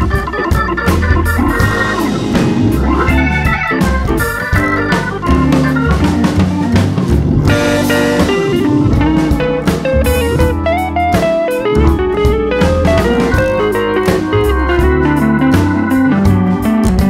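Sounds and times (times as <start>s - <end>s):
guitar-led tune with drums: 0.0s - 17.0s.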